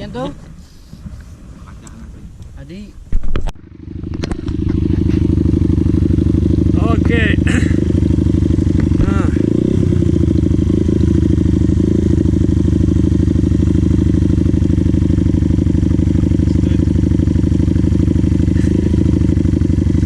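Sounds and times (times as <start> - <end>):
dirt bike engine idling: 3.6 - 20.0.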